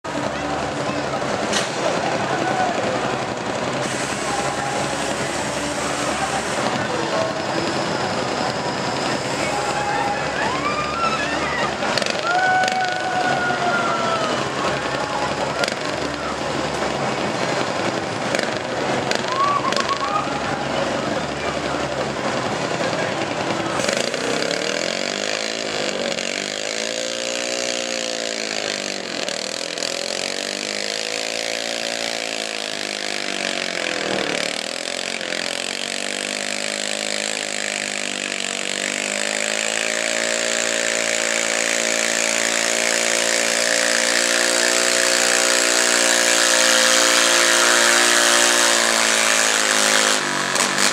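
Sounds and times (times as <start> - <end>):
tractor engine at high revs: 0.0 - 50.9.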